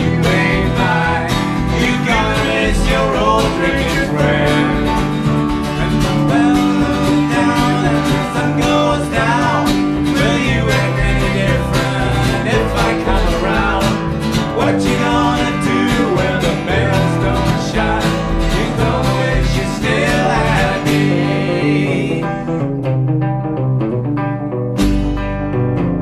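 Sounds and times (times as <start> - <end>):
acoustic guitar: 0.0 - 26.0
electric guitar: 0.0 - 26.0
upright double bass: 0.0 - 26.0.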